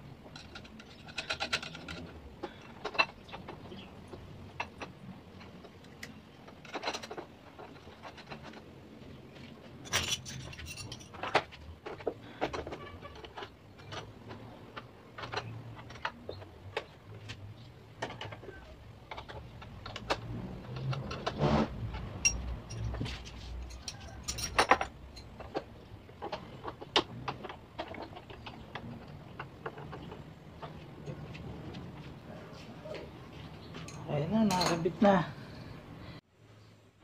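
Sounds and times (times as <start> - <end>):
metal tools and bolts clinking: 0.1 - 32.0, 33.7 - 35.2
metal clatter: 0.2 - 17.3, 17.9 - 32.0.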